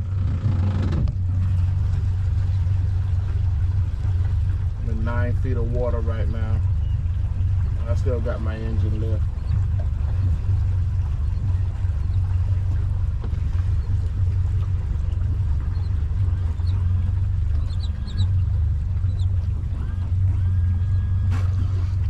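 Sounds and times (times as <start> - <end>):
outboard motor humming: 0.0 - 22.0.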